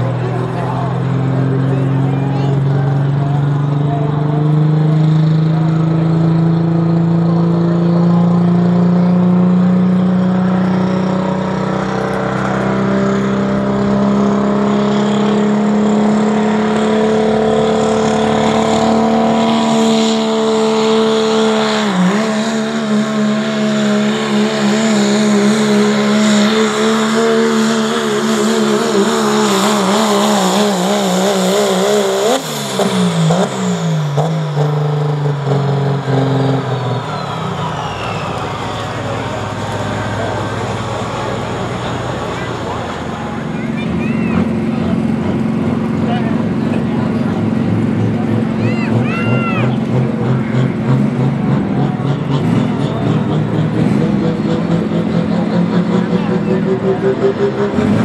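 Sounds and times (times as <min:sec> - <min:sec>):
diesel truck engine at full throttle: 0:00.0 - 0:58.0.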